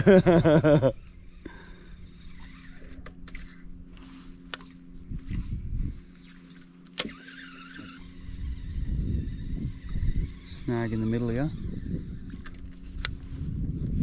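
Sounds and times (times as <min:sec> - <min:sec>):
low hum: 0:00.0 - 0:14.0
fishing reel winding: 0:01.0 - 0:13.2.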